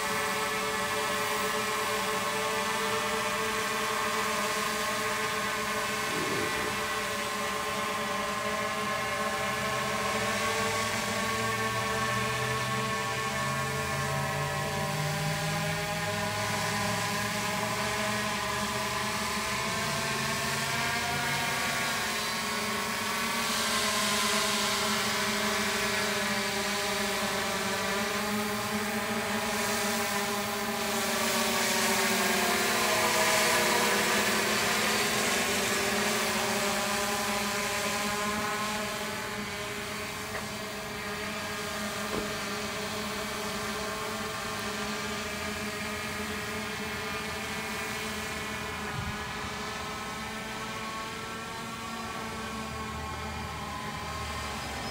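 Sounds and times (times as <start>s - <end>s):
drone propellers humming: 0.0s - 54.9s.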